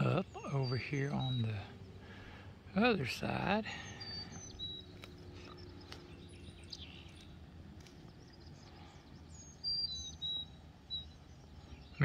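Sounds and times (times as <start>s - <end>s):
faint outdoor hiss: 0.0s - 12.0s
small birds chirping: 0.0s - 12.0s.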